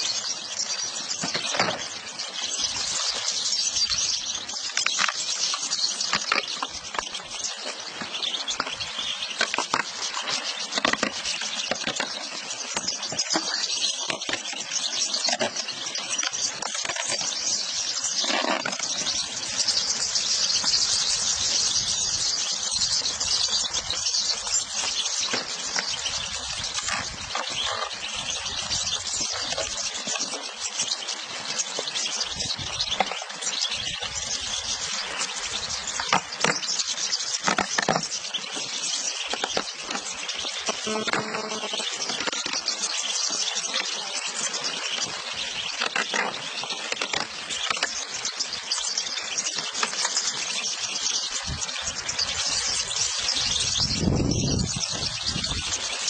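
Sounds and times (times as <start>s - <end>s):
flock of finches twittering: 0.0s - 56.0s
goldfinches chirping: 0.0s - 56.0s.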